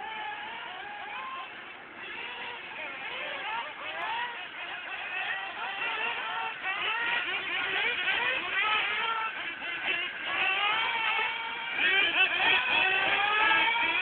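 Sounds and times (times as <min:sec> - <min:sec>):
model car motors whining: 0:00.0 - 0:14.0.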